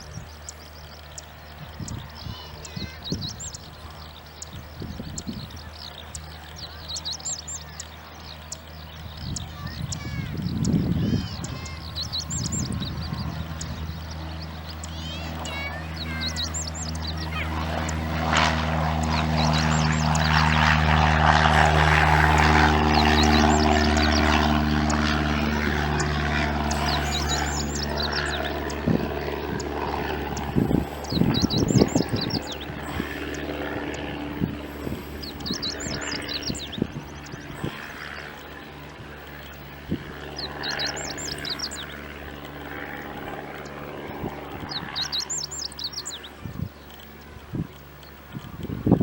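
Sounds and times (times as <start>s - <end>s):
bird chirping: 0.0s - 48.5s
propeller plane engine drone: 0.0s - 49.0s.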